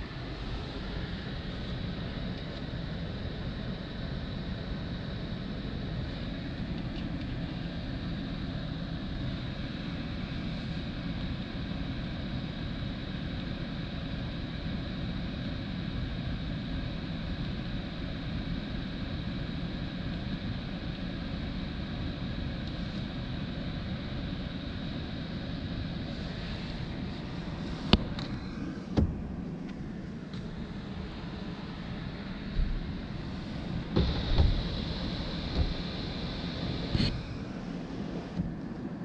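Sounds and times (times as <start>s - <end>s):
car engine drone in cabin: 0.0s - 39.0s.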